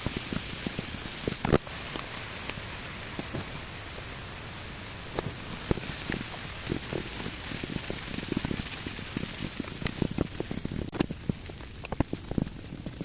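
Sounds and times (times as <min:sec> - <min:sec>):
rice sizzling in a frying pan: 0:00.0 - 0:13.0.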